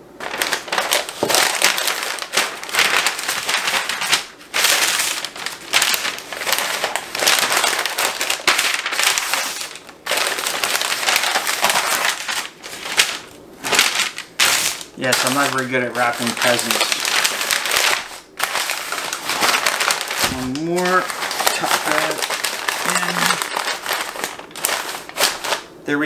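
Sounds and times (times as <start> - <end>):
paper crinkling and rustling: 0.2 - 25.7.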